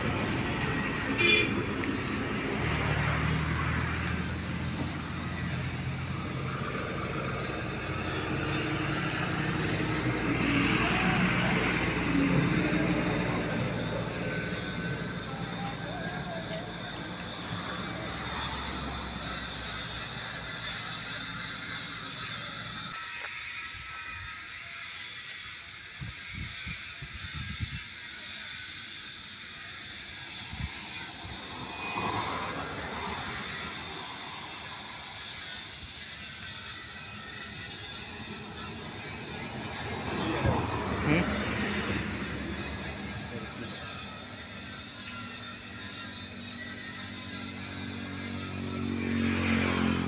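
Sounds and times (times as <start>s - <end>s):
motor vehicle engine hum: 0.0s - 23.0s, 30.4s - 50.0s.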